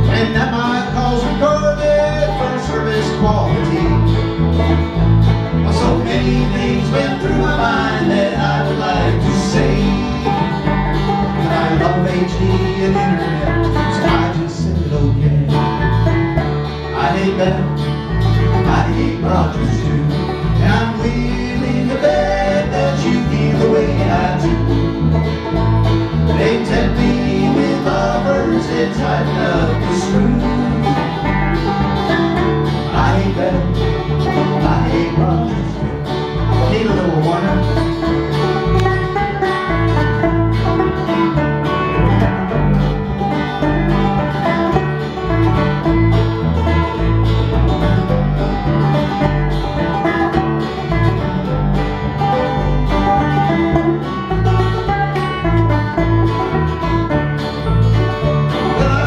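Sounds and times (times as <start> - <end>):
banjo: 0.0 - 59.0
bluegrass band playing: 0.0 - 59.0.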